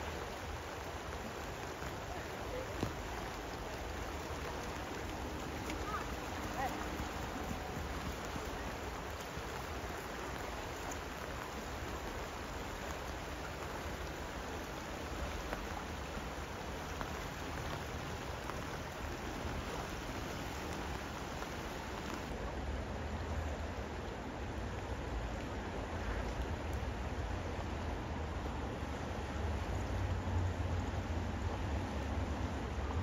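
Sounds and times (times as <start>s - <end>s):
rain falling: 0.0s - 33.0s
river water rushing: 0.0s - 33.0s.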